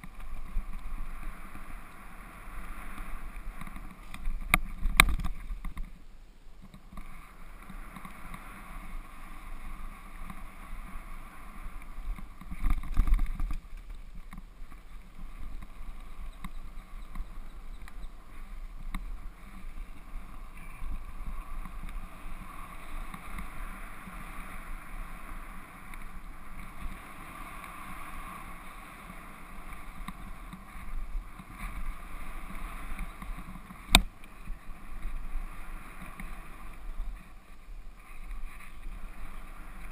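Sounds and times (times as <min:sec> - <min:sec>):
bike tyres on gravel: 0:00.0 - 0:39.9
wind on microphone: 0:06.9 - 0:39.9.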